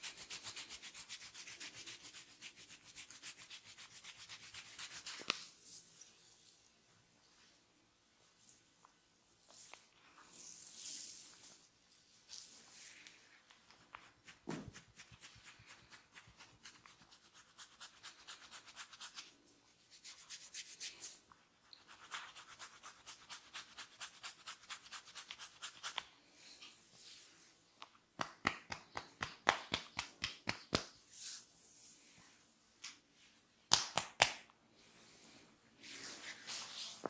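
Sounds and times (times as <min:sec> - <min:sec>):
hands rubbing skin and hair: 0:00.0 - 0:06.4, 0:08.2 - 0:37.0.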